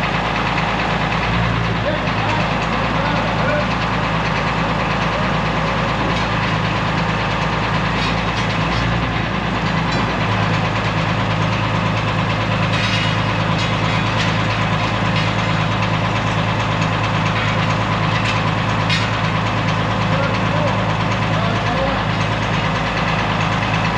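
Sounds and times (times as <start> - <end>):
tractor engine idling: 0.0 - 23.9.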